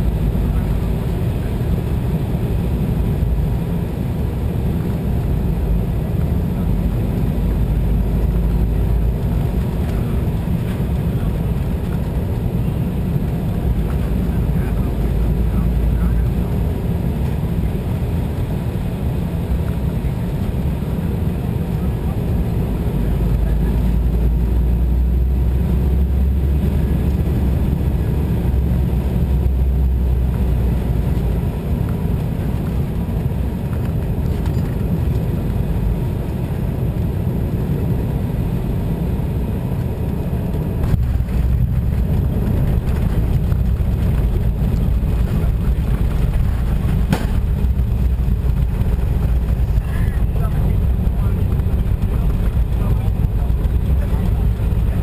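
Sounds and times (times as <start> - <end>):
aircraft rolling on runway: 0.0 - 55.0
jet engines rumbling in cabin: 0.0 - 55.0.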